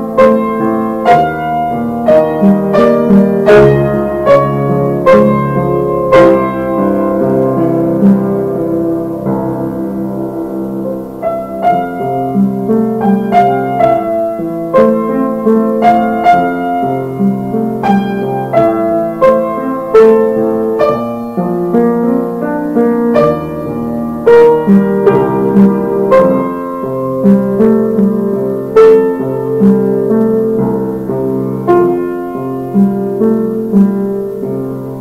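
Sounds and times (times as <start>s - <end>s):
piano melody with held chords: 0.0s - 35.0s.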